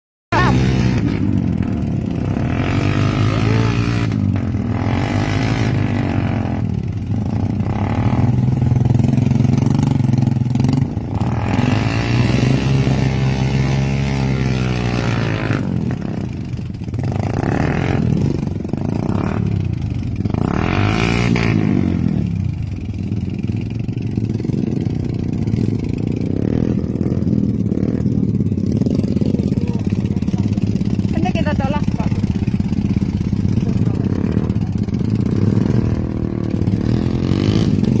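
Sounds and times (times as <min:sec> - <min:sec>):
motorcycle engine revving: 0:00.3 - 0:38.0.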